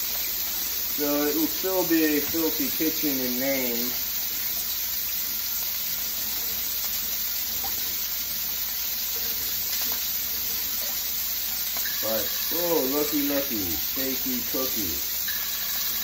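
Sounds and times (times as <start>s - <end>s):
steaks sizzling in a pan: 0.0s - 16.0s.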